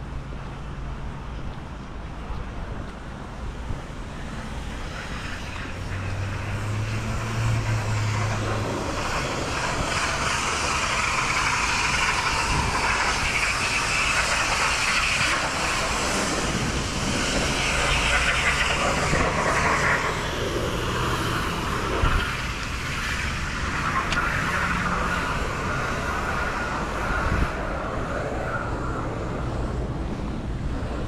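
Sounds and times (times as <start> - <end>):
outdoor background noise: 0.0 - 31.0
propeller plane engine droning: 0.0 - 31.0.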